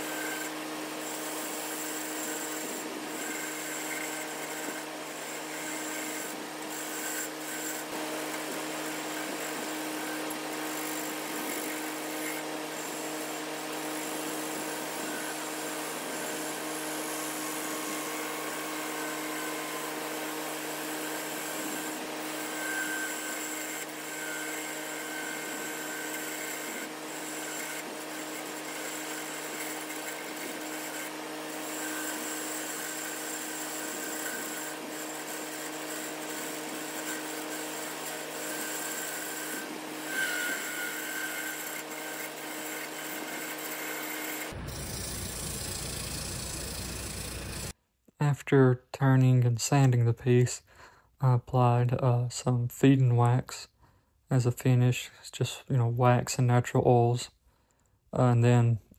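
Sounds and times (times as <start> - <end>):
tool scraping spinning wood: 0.0 - 47.8
wood lathe motor hum: 0.0 - 47.8.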